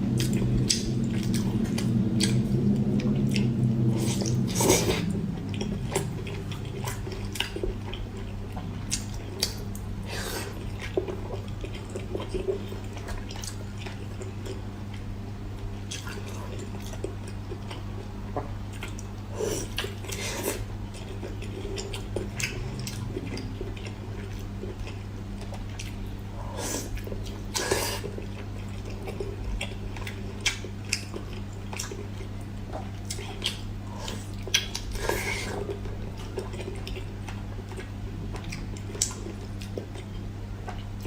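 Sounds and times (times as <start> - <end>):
steady low hum: 0.0 - 41.0
person chewing: 0.1 - 41.0.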